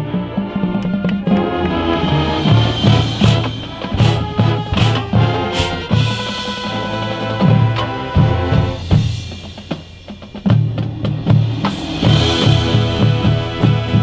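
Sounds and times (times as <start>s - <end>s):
brass chords: 0.0s - 14.0s
pulsing low drum line: 0.0s - 14.0s
cymbal crashes: 1.1s - 14.0s.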